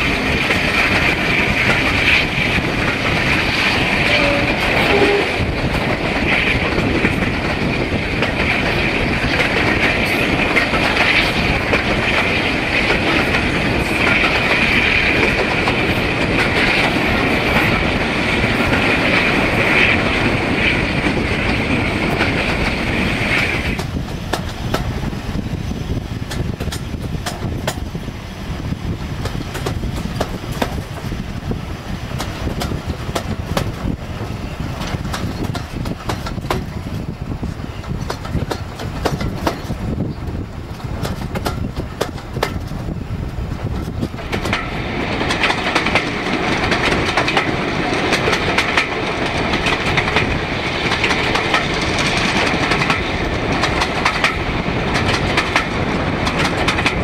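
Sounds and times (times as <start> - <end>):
wheels clicking over rail joints: 0.0 - 28.1, 28.9 - 57.0
diesel locomotive rumble: 0.0 - 57.0.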